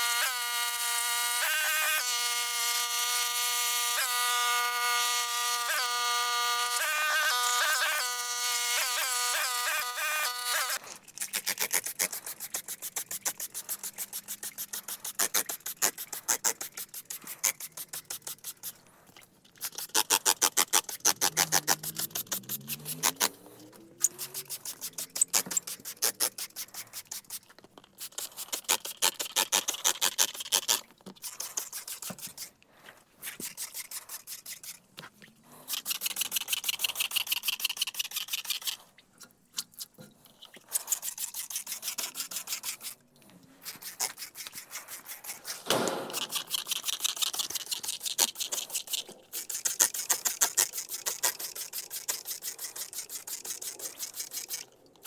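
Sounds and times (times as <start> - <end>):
rapid rasping scrapes: 0.0 - 38.9, 40.3 - 54.8.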